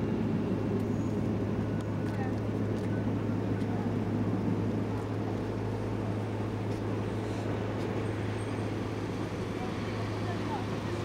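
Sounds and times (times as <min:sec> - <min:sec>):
low mechanical hum with rumble: 0:00.0 - 0:11.0.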